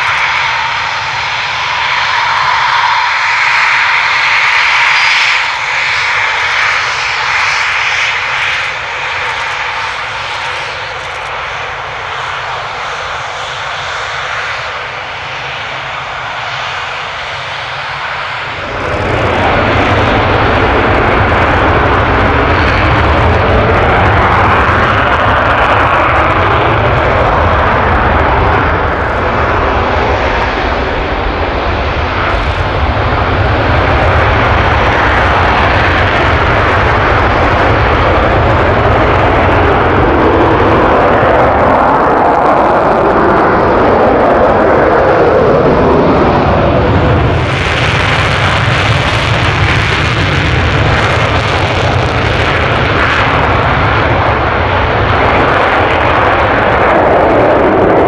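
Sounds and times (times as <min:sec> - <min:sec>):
jet engine roar: 0:00.0 - 0:58.0.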